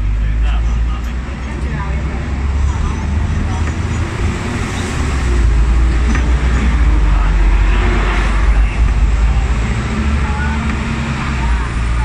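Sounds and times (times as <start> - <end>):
road traffic: 0.0 - 12.0
tram rumbling on tracks: 0.0 - 12.0.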